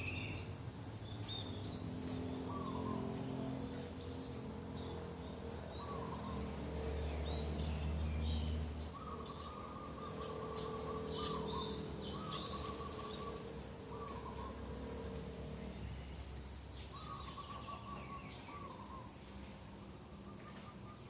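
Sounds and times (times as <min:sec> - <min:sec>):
small birds chirping: 0:00.0 - 0:21.0
doves cooing: 0:02.1 - 0:16.2, 0:16.9 - 0:21.0.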